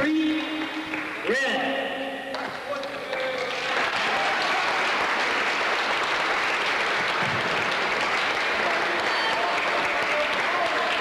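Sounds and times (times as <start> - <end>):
crowd applauding: 0.0 - 1.6, 2.3 - 11.0.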